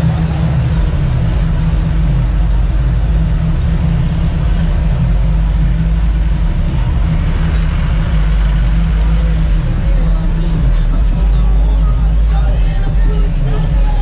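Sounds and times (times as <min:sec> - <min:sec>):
pickup truck engines rumbling: 0:00.0 - 0:14.0.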